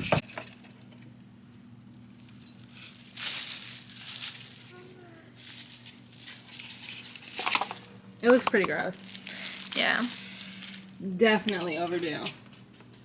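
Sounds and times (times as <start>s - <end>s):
plastic bag crinkling: 0.2s - 11.0s.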